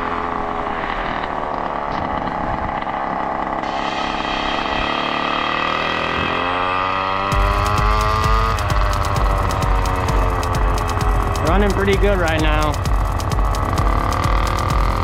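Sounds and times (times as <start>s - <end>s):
scooter two-stroke engine revving: 0.0s - 15.0s.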